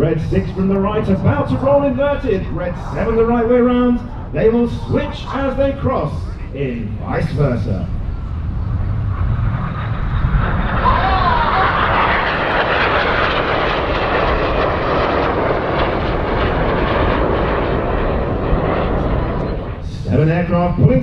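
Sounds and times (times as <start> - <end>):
jets passing low: 0.0 - 21.0.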